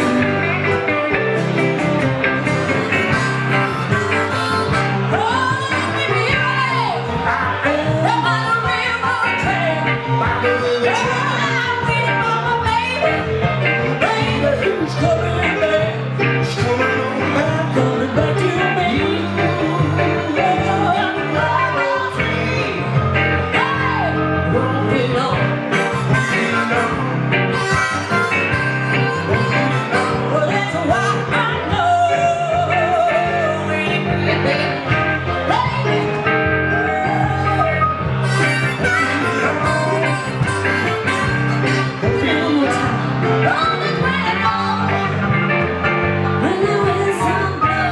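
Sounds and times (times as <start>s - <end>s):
blues-rock band playing: 0.0s - 47.9s
electric guitar: 0.0s - 47.9s
electric keyboard: 0.0s - 47.9s
woman singing: 3.9s - 45.6s, 46.3s - 47.9s.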